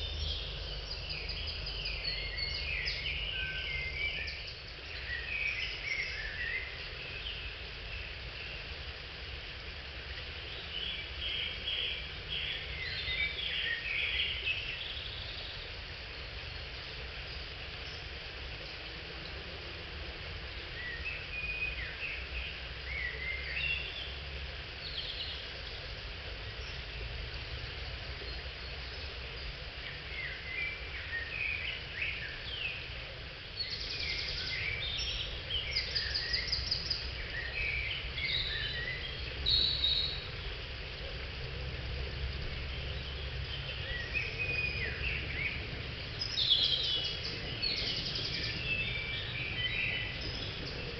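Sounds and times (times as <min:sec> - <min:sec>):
background hiss: 0:00.0 - 0:50.9
birds chirping: 0:09.8 - 0:50.9.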